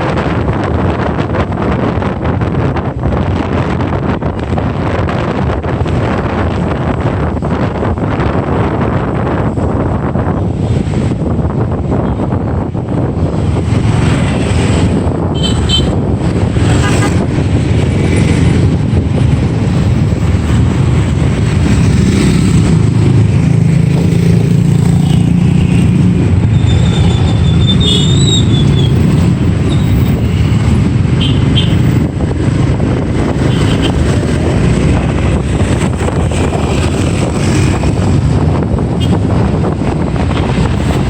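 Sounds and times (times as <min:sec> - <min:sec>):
motorbike engine and road noise: 0:00.0 - 0:41.0.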